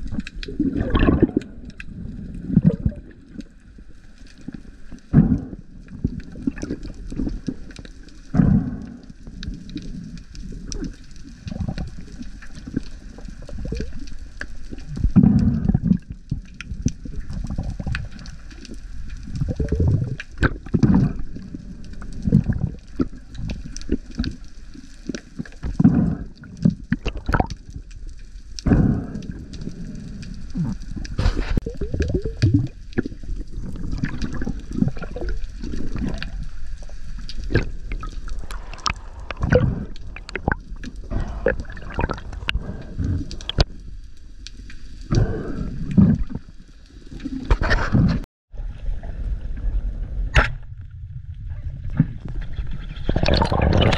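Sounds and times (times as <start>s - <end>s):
sea water sloshing and gurgling: 0.0s - 53.9s.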